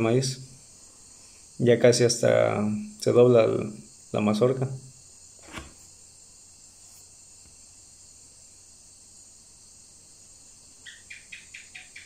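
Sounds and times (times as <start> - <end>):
field insect chorus: 0.0 - 12.0.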